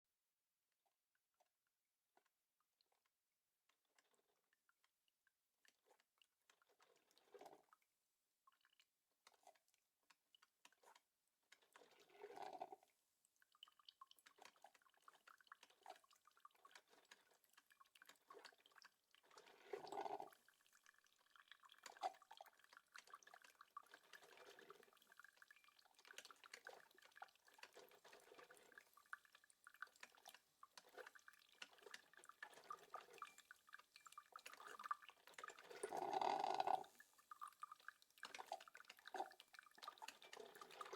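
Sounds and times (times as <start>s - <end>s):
coffee maker dripping and gurgling: 0.8s - 40.9s.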